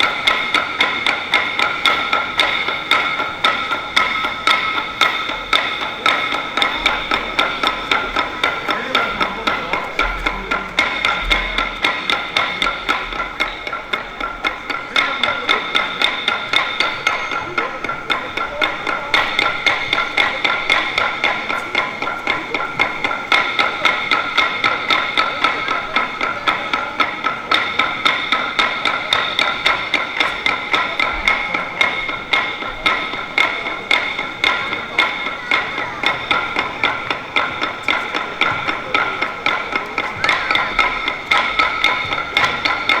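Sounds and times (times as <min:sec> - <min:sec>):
high ringing tones: 0:00.0 - 0:43.0.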